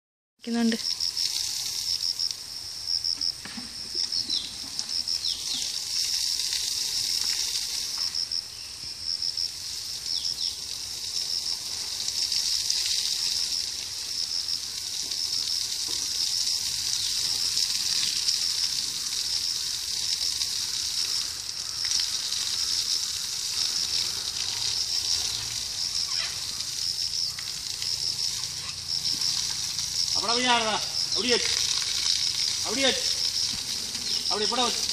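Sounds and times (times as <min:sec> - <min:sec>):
hose water spraying: 0:00.5 - 0:34.9.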